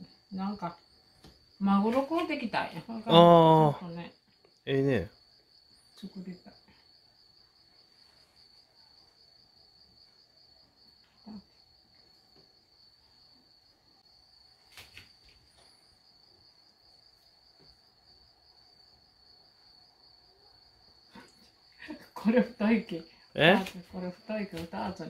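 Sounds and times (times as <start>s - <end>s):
cricket trilling: 0.0s - 25.0s.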